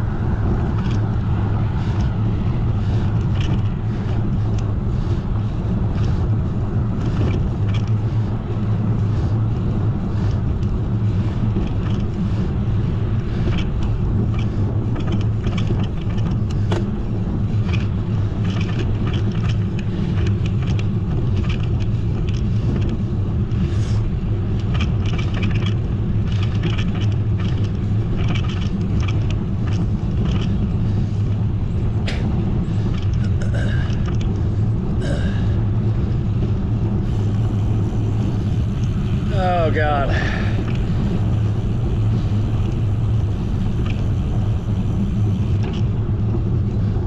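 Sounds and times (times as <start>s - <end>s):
bicycle road noise: 0.0s - 47.0s
wind on microphone: 0.0s - 47.0s
small ticks and rattles: 0.4s - 5.1s, 6.9s - 35.2s, 36.3s - 47.0s.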